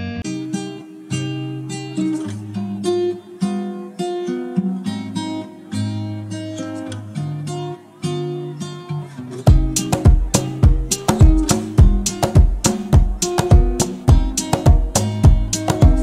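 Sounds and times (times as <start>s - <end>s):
acoustic guitar plucking and strumming: 0.0s - 16.0s.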